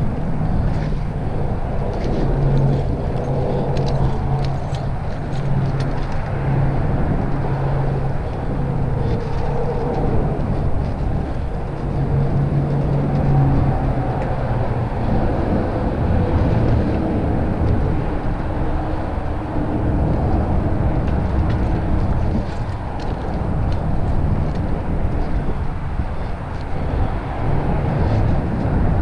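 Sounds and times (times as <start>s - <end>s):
bike tyre and trail noise: 0.0s - 29.0s
wind rumbling over microphone: 0.0s - 29.0s.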